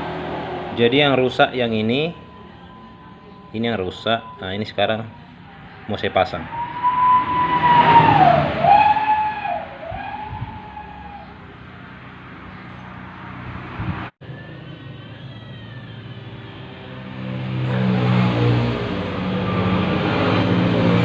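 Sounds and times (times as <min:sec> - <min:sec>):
siren wailing: 0:00.0 - 0:11.9, 0:14.2 - 0:21.0
vehicle engine: 0:00.0 - 0:21.0.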